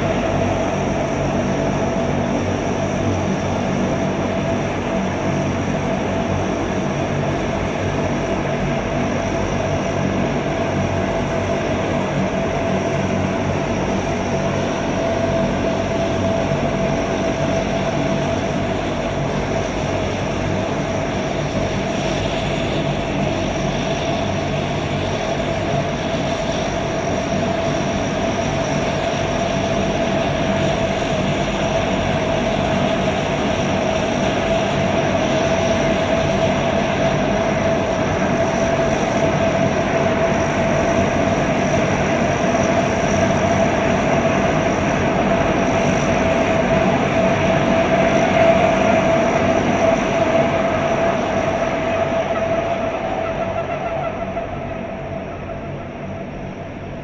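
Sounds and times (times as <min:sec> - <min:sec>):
turboprop engines running: 0:00.0 - 0:57.0.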